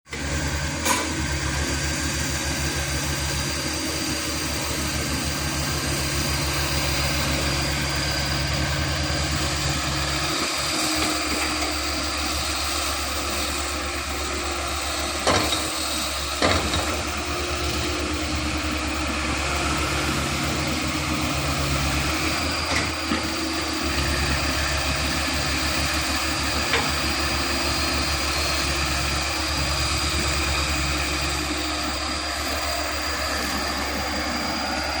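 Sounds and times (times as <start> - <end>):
excavator diesel engine running: 0.1 - 35.0.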